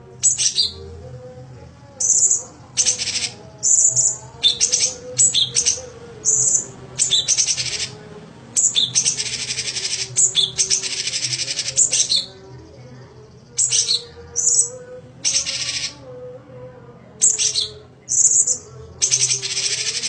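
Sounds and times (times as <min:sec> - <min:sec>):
leafbird singing: 0:00.0 - 0:01.0, 0:01.9 - 0:16.1, 0:17.2 - 0:20.0.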